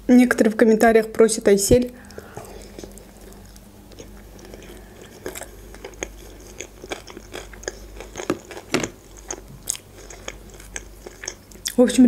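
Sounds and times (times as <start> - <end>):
close-miked chewing crunches: 2.0 - 11.8.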